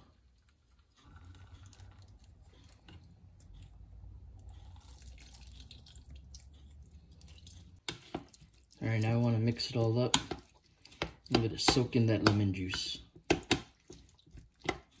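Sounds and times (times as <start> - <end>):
juice dripping: 0.3 - 12.6.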